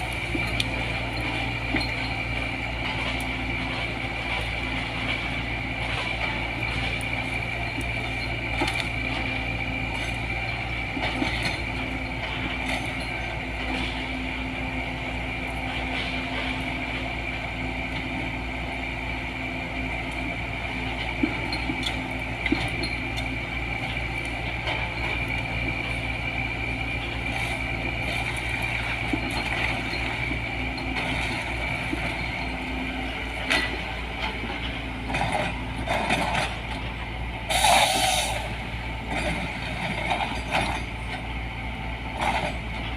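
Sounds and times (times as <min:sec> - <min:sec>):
excavator diesel engine whining: 0:00.0 - 0:42.9.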